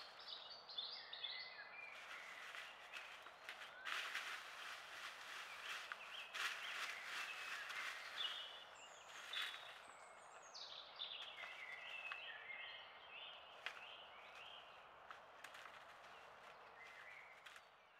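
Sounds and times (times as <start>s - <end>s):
songbirds singing: 0.0s - 17.9s.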